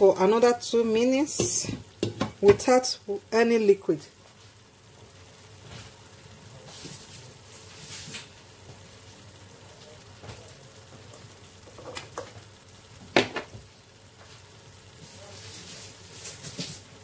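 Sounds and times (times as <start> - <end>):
rice sizzling in a pan: 0.0 - 17.0.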